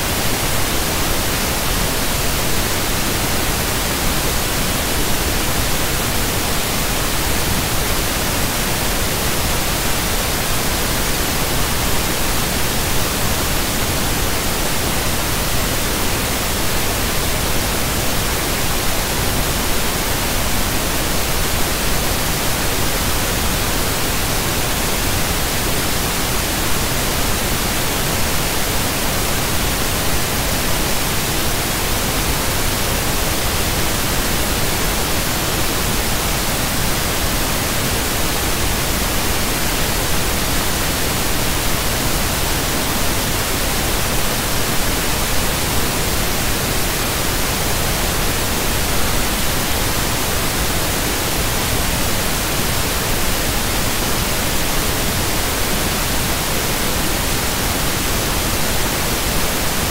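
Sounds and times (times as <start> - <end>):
static hiss: 0.0 - 59.9.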